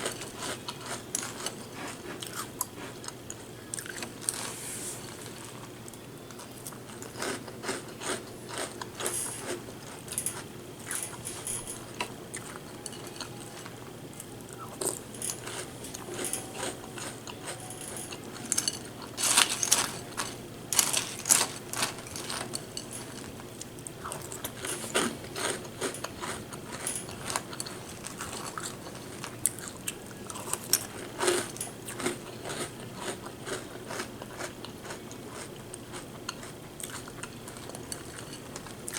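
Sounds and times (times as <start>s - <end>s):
person chewing crunchy cereal: 0.0s - 38.9s.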